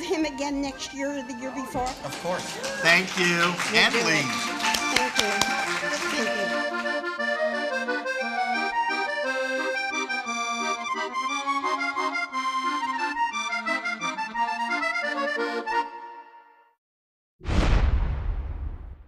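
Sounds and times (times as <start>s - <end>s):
instrumental theme music: 0.0s - 16.8s.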